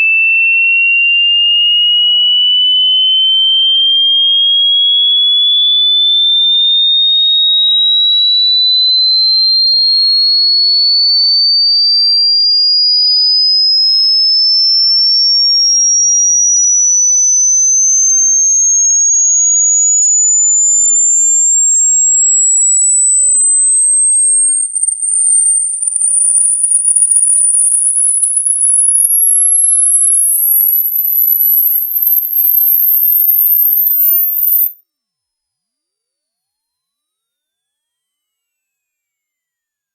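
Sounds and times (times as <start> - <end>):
rising sine-wave tone sweep: 1.5 - 34.8.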